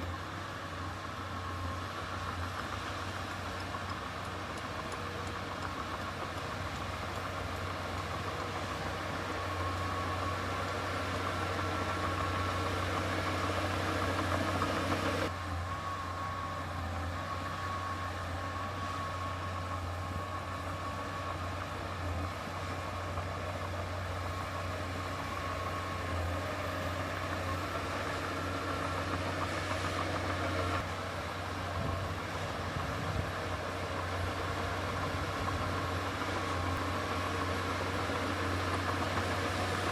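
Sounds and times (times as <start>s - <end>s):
earthmoving machine diesel engine: 0.0s - 39.9s.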